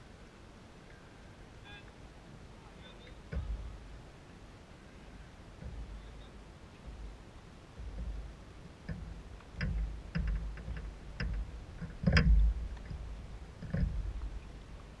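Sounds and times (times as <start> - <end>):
wind rumble on microphone: 2.1 - 15.0.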